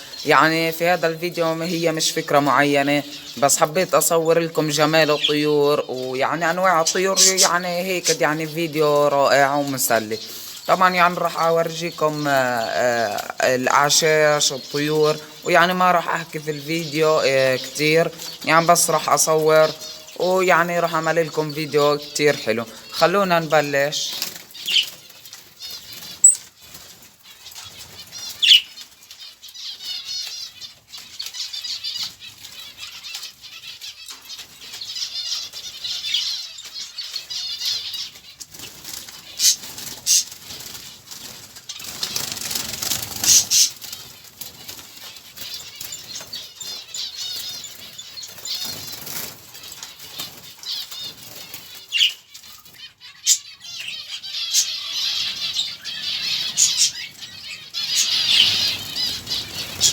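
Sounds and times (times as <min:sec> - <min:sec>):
wings fluttering: 0:00.0 - 0:29.6, 0:30.2 - 0:52.8, 0:54.5 - 0:59.9
small birds chirping and twittering: 0:00.0 - 0:59.9.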